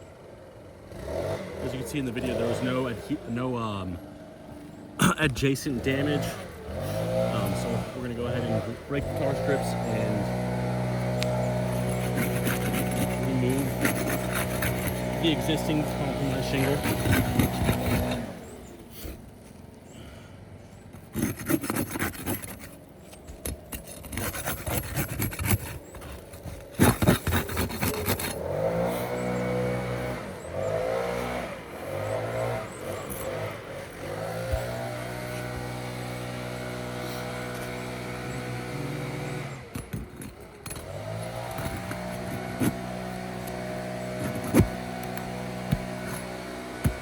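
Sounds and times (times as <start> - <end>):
engine running nearby: 0.0 - 47.0
scraping roof shingles: 5.0 - 19.0, 21.0 - 47.0.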